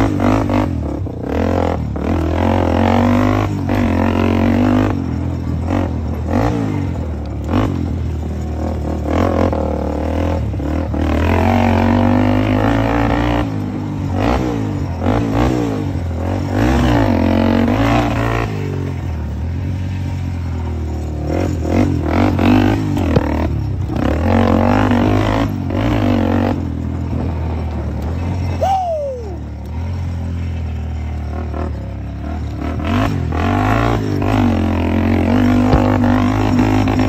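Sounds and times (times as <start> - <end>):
quad bike engine revving: 0.0 - 37.0.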